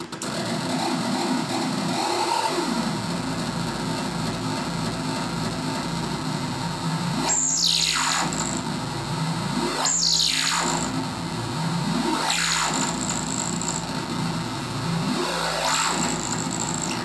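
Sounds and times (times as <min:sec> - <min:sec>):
noisy buzzing synth drone: 0:00.0 - 0:17.0.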